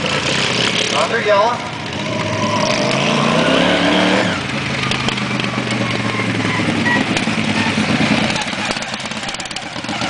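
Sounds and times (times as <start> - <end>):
racing lawn mower engines: 0.0 - 10.0.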